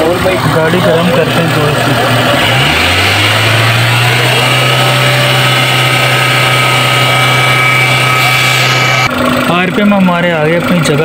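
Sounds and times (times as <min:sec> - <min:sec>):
thin steady whine: 0:00.0 - 0:09.1
car engine running at raised revs: 0:00.0 - 0:09.9.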